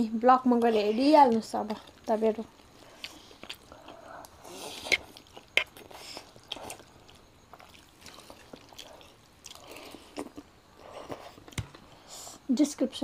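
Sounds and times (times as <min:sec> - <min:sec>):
chewing and wet mouth noises: 0:00.5 - 0:11.9.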